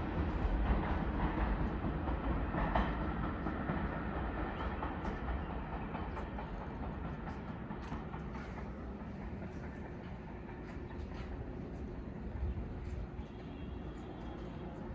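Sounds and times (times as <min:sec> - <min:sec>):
subway train rumbling: 0:00.0 - 0:14.9.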